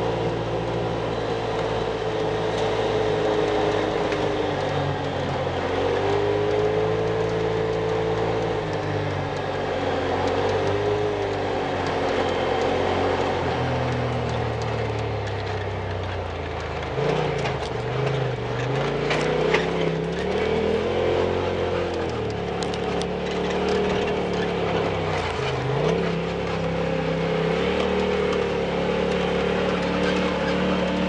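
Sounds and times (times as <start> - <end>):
off-road vehicle engine revving: 0.0 - 31.0
sharp clicks and knocks: 1.4 - 31.0.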